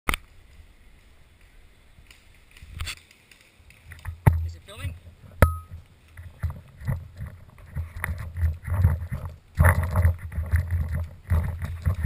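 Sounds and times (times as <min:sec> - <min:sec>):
footsteps on a dirt path: 0:02.2 - 0:12.0.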